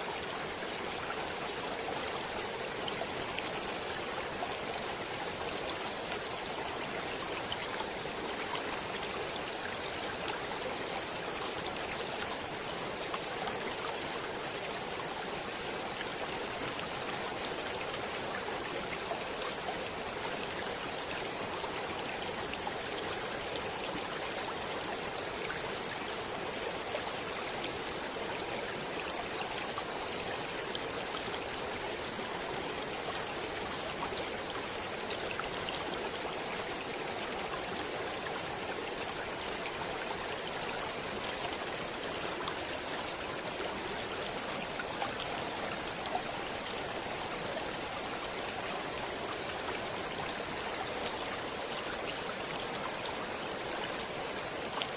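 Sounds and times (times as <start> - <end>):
stream water running: 0.0 - 54.9.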